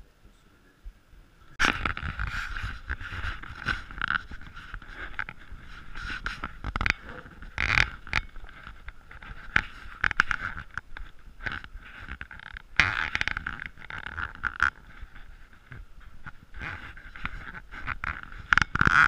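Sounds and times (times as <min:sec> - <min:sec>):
clothing rustling: 0:01.6 - 0:19.0.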